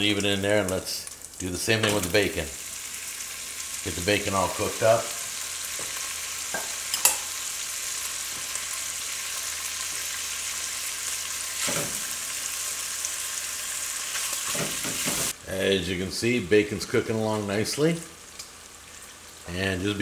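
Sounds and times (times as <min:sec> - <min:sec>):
bacon sizzling in grease: 0:00.0 - 0:15.4, 0:16.6 - 0:20.0.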